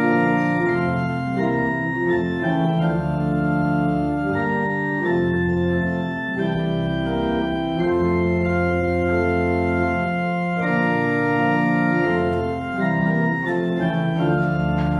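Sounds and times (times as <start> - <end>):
organ playing slow chords: 0.0 - 14.9.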